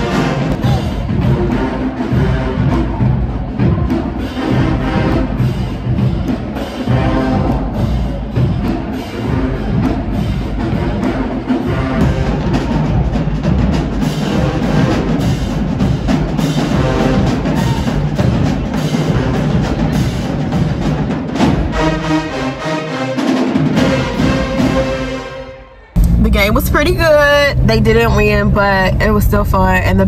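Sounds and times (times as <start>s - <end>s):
marching band playing: 0.0s - 28.7s
drums and percussion hitting: 0.0s - 29.4s.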